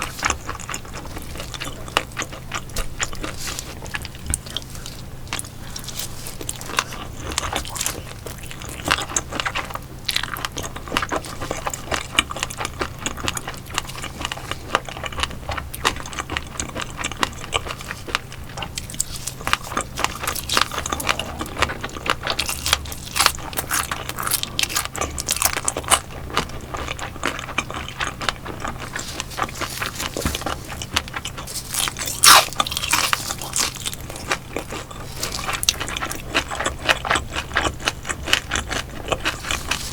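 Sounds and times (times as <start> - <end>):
crunchy chewing of fried fish: 0.0 - 39.9.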